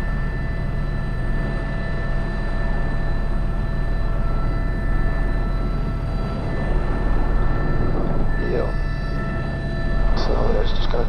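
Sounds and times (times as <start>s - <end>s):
helicopter rotor and engine rumble: 0.0s - 11.0s
high turbine whine: 0.0s - 11.0s.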